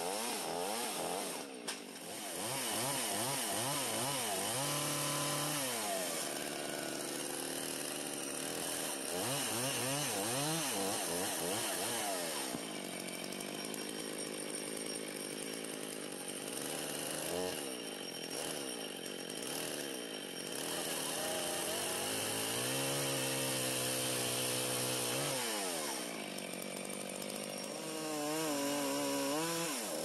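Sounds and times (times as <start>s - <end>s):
chainsaw cutting wooden post: 0.0s - 30.0s
chainsaw revving: 0.0s - 30.0s.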